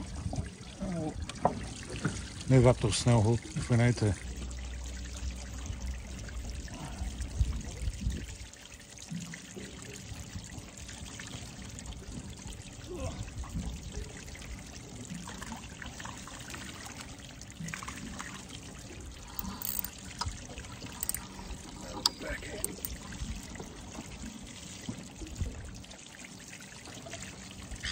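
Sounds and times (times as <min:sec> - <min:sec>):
water lapping against boat: 0:00.0 - 0:27.9.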